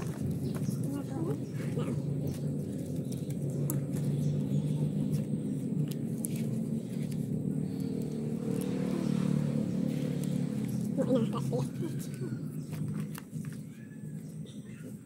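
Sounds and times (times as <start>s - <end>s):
leaves rustling and crinkling: 0.0s - 14.4s
low engine hum: 0.0s - 15.0s.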